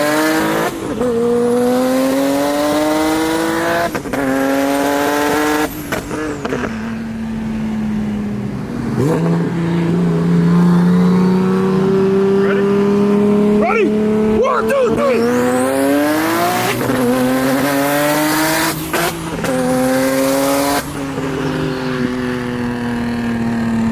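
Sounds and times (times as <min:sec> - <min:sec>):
car engine accelerating: 0:00.0 - 0:23.9.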